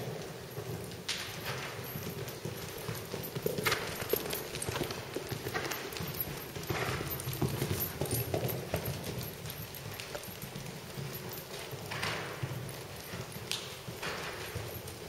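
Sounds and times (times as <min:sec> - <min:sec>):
horse hoofbeats on dirt: 0:00.0 - 0:15.0.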